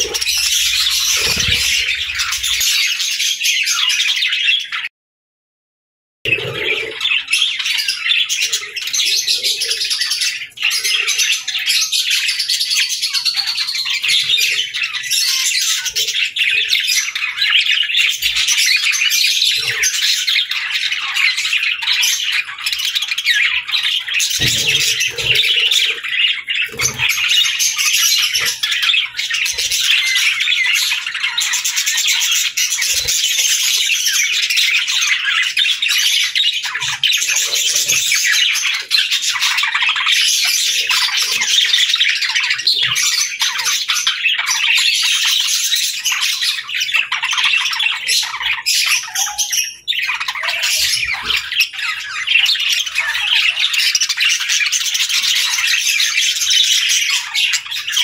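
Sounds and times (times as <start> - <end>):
budgerigars chattering: 0.0 - 4.9, 6.3 - 58.0.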